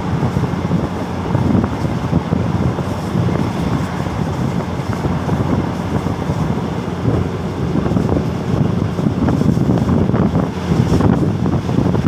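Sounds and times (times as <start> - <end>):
train running noise: 0.0 - 12.0
wind on microphone: 0.0 - 12.0.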